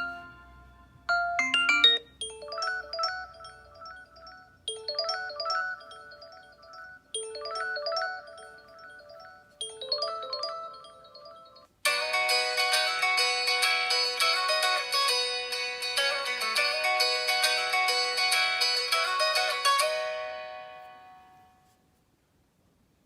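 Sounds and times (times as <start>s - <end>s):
chiming ringtone melody: 0.0s - 21.6s.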